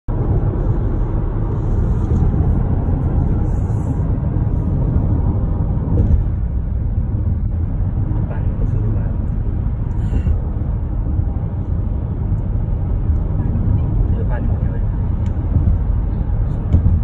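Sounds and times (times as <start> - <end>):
car cabin road and engine noise: 0.1 - 17.0.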